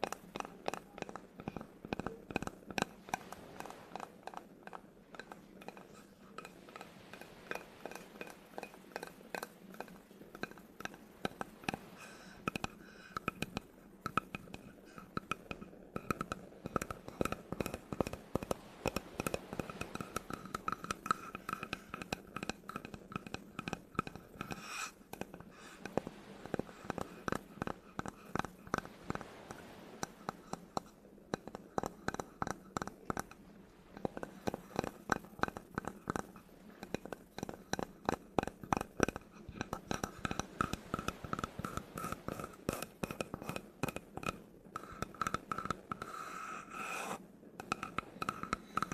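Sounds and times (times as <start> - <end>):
fingers tapping on wood: 0.0 - 11.8, 12.4 - 33.4, 34.0 - 48.9.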